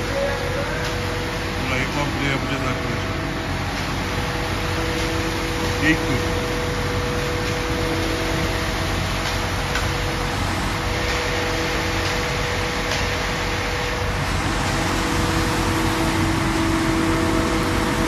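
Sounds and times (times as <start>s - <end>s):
diesel engine hum with whine: 0.0s - 18.0s.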